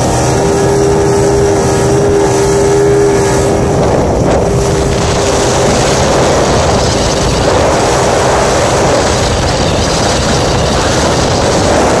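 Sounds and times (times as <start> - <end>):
outboard motor running: 0.0 - 12.0
wind rush over microphone: 0.0 - 12.0.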